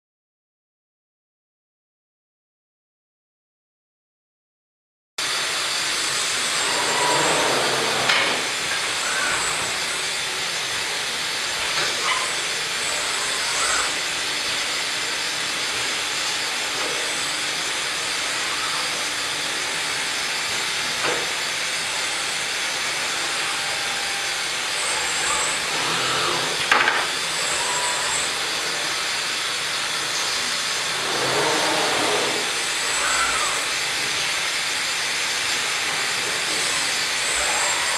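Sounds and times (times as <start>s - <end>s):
machine hissing: 5.2s - 37.9s.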